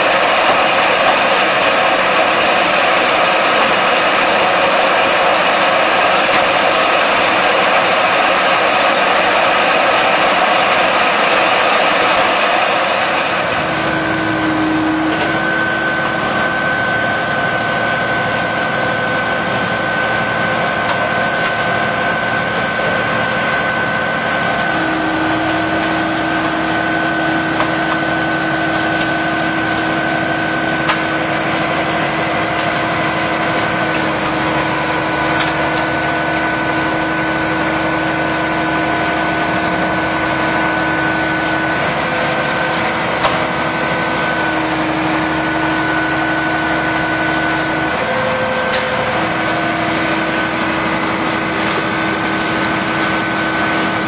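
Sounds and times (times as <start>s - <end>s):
steady whine: 0.0s - 54.0s
truck engine running: 0.0s - 54.0s.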